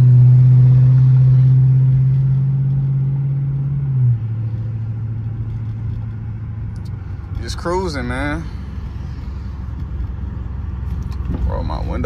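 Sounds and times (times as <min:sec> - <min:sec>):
car engine droning in cabin: 0:00.0 - 0:12.0.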